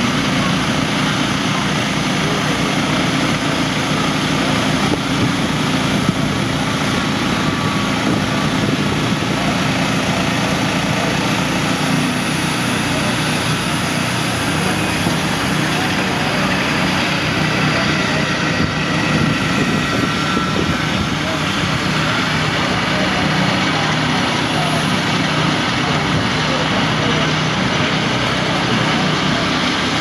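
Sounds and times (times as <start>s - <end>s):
sawmill engine drone: 0.0s - 30.0s.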